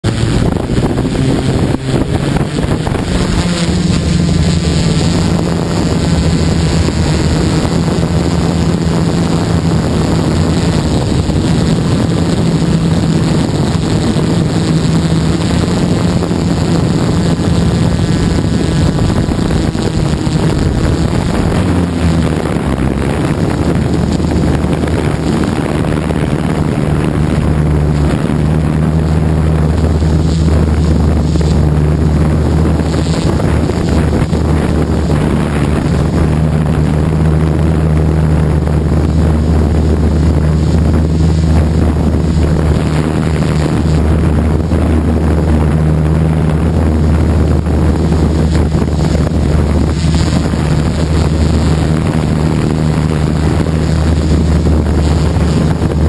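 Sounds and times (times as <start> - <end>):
drone motors droning: 0.0 - 56.0
wind noise on microphone: 0.0 - 56.0.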